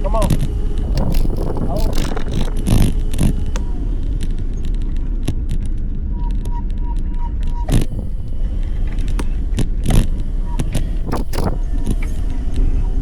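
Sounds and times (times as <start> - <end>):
clicks and rattles: 0.0 - 5.8, 7.6 - 12.3
road rumble: 0.0 - 13.0
wind on microphone: 0.0 - 13.0.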